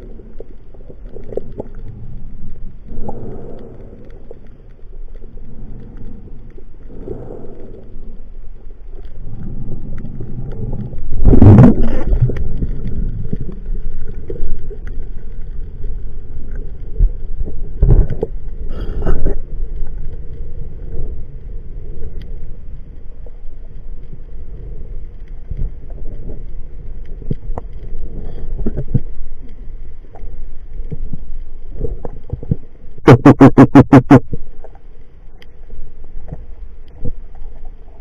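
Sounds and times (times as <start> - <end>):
rushes of water: 0.0 - 32.9
low underwater rumble: 0.0 - 38.0.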